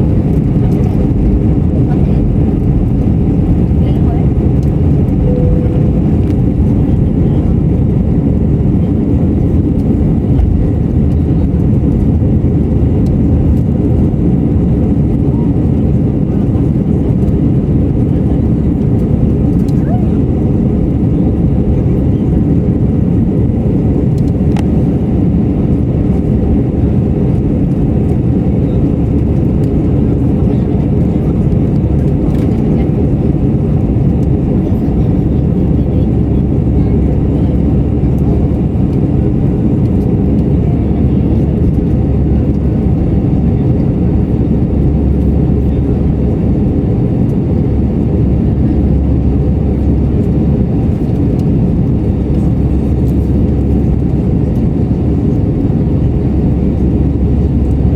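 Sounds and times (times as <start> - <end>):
jet engines rumbling inside cabin: 0.0 - 57.9.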